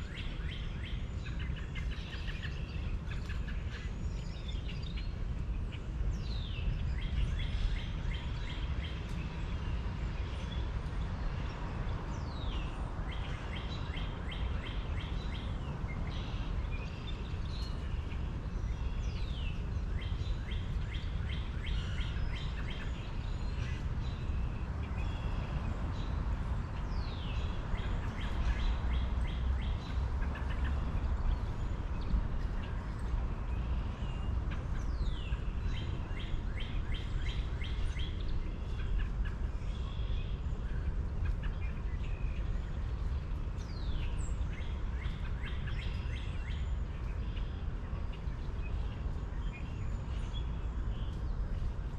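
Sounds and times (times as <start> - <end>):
birds singing and calling: 0.0 - 51.9.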